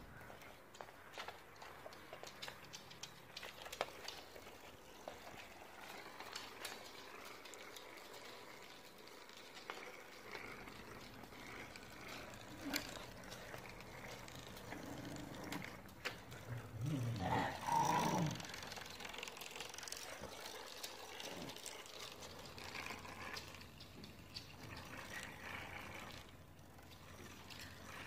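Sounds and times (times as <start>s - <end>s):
toy clicks on wooden floor: 0.6s - 28.0s.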